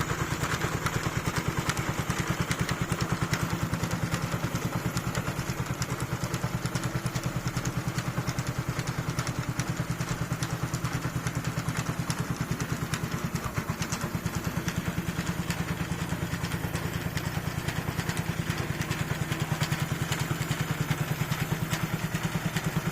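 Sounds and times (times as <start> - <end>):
tiller engine running: 0.0 - 22.9.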